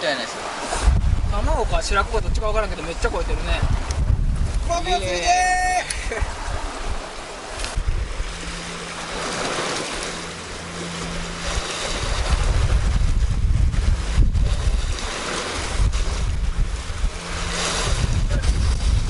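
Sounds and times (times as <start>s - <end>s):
sea waves on rocky shore: 0.0s - 19.0s
wind buffeting microphone: 0.4s - 19.0s.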